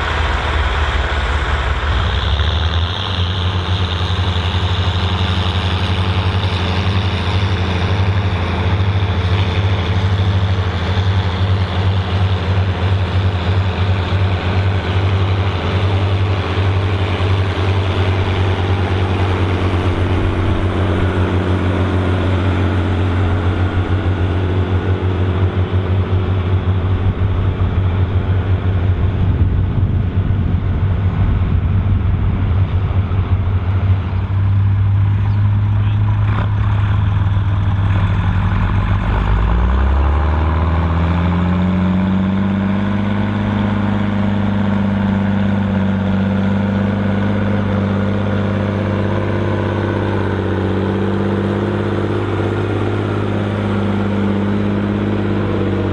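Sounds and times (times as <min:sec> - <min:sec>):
diesel tractor engine droning: 0:00.0 - 0:55.9.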